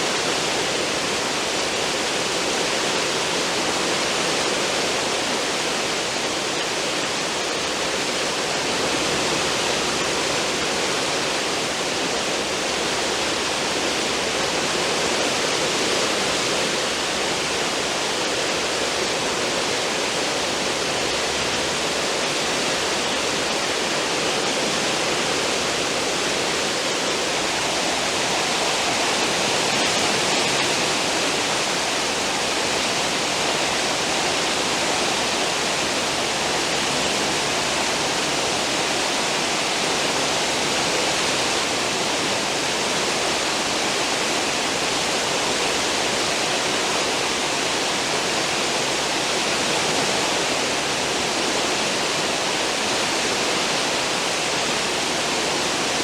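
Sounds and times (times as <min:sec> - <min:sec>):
ship wake water rushing: 0:00.0 - 0:56.0.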